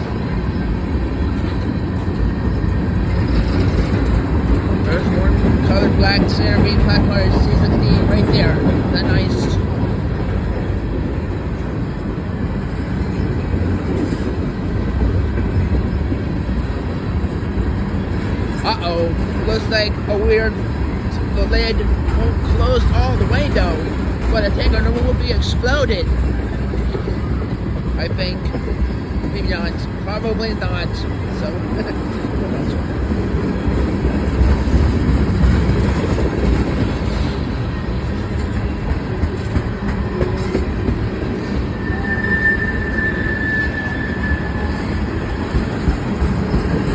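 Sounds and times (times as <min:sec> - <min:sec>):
steel wheels on rail: 0:00.0 - 0:46.9.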